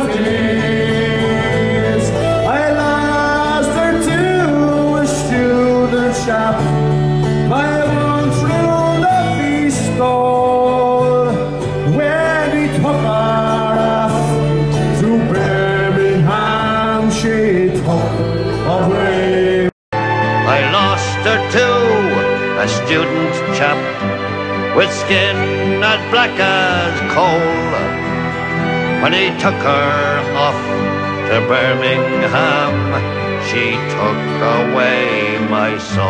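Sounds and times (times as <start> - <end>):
fiddle playing folk melody: 0.0 - 36.0
strummed acoustic guitar: 0.0 - 36.0.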